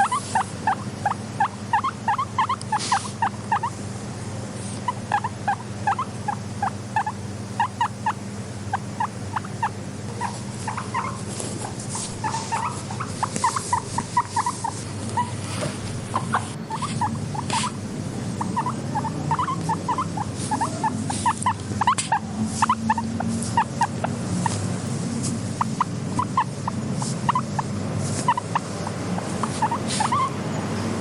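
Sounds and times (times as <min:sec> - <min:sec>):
guinea pig squeaking: 0:00.0 - 0:03.8, 0:04.8 - 0:31.0
steady low hum: 0:00.0 - 0:31.0.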